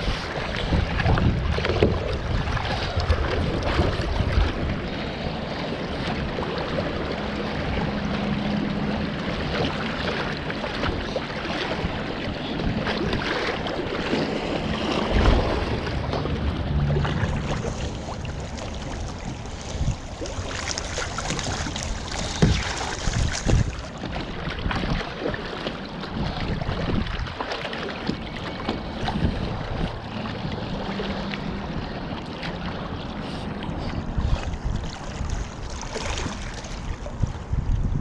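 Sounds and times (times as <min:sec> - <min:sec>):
water sloshing and splashing: 0:00.0 - 0:38.0
wind buffeting microphone: 0:00.0 - 0:38.0.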